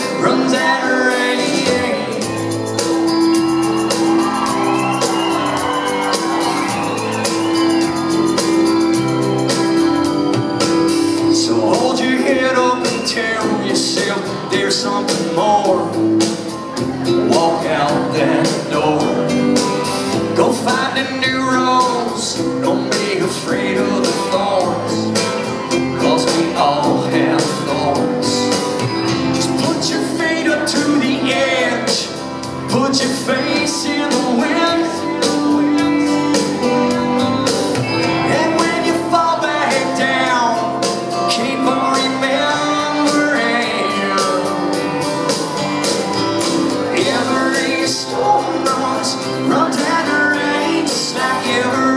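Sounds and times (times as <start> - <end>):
person singing: 0.0 - 28.6, 29.2 - 51.9
country-rock band playing: 0.0 - 51.9.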